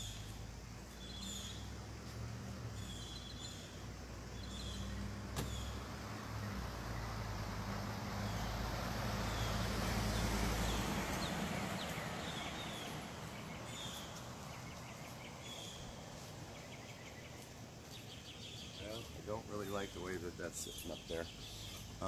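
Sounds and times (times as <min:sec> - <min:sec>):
birds chirping: 0:00.0 - 0:02.0, 0:02.6 - 0:22.0
faint outdoor background noise: 0:00.0 - 0:22.0
motor vehicle passing: 0:00.0 - 0:22.0.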